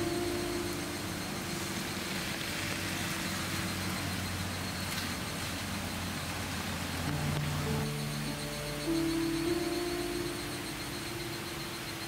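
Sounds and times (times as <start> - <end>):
low steady hum: 0.0 - 12.0
tyres hissing on wet road: 0.0 - 12.0.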